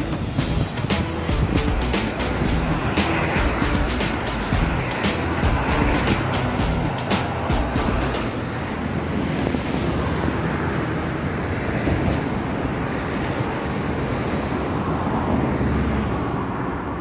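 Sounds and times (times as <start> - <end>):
road traffic noise: 0.0 - 17.0
wind rumbling on microphone: 0.0 - 17.0.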